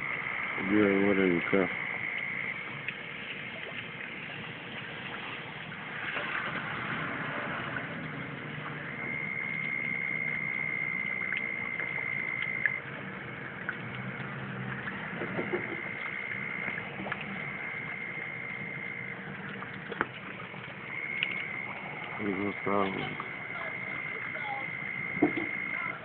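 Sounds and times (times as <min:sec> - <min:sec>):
rain and running floodwater: 0:00.0 - 0:26.0.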